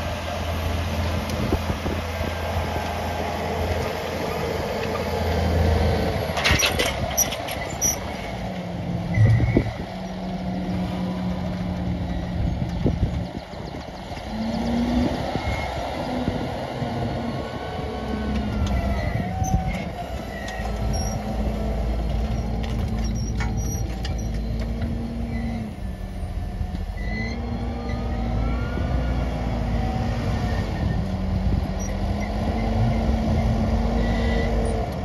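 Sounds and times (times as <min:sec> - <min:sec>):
tractor engine rumbling: 0:00.0 - 0:35.0.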